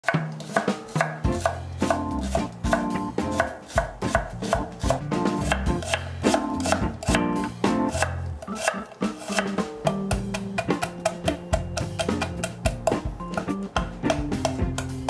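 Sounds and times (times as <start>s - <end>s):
knife chopping on cutting board: 0.0s - 15.0s
background music: 0.4s - 15.0s.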